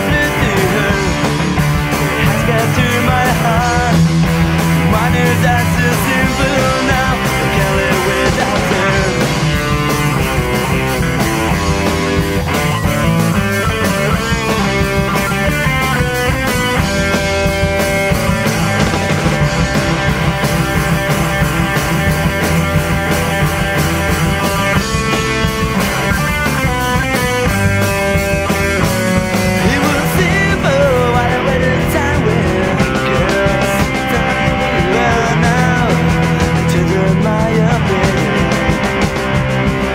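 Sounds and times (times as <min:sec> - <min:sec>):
distorted electric guitars: 0:00.0 - 0:39.9
drum kit beat: 0:00.0 - 0:39.9.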